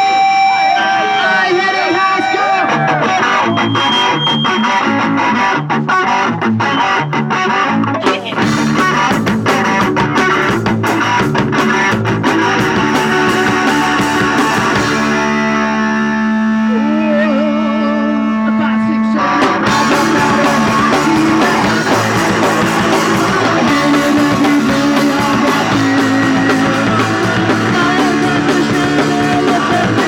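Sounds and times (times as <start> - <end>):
drums: 0.0 - 17.6, 19.2 - 30.0
distorted electric guitar: 0.0 - 30.0.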